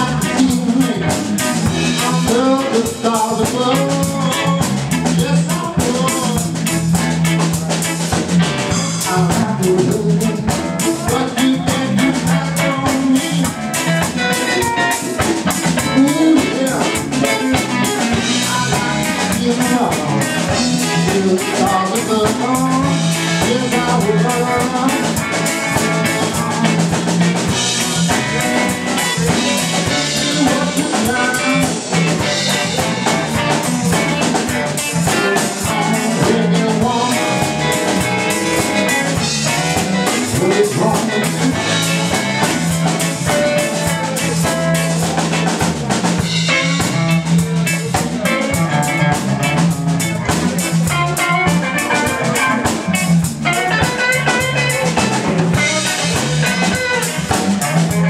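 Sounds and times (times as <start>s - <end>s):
drum kit: 0.0s - 58.0s
electric bass: 0.0s - 58.0s
electric guitars: 0.0s - 58.0s.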